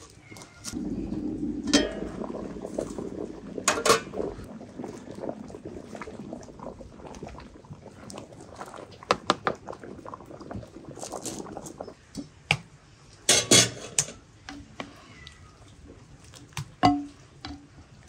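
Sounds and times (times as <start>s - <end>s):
water boiling in a pot: 0.0s - 18.0s.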